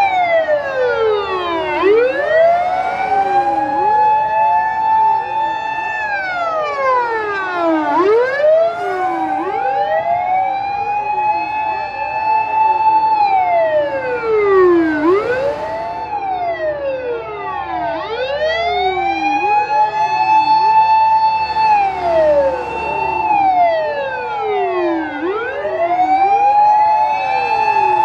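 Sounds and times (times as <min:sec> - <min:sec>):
fire engine sirens wailing: 0:00.0 - 0:28.0.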